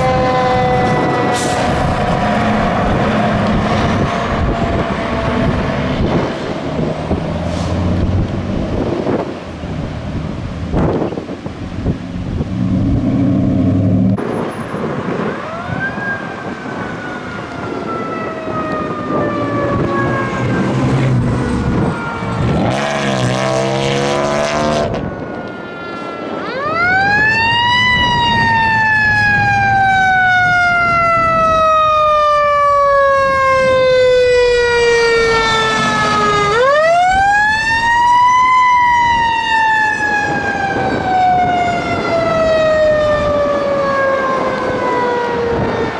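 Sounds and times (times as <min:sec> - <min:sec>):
electronic siren wail: 0:00.0 - 0:06.6, 0:15.2 - 0:45.9.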